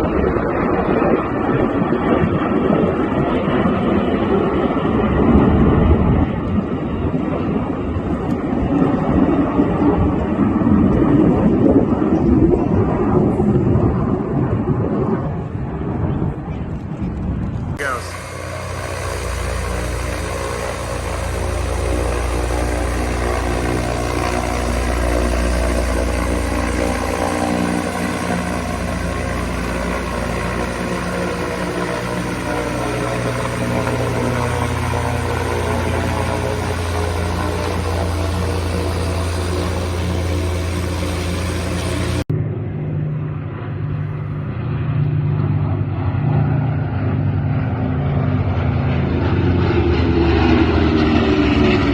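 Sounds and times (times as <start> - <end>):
plane passing: 0.0 - 51.9
steady aircraft engine drone: 0.0 - 51.9.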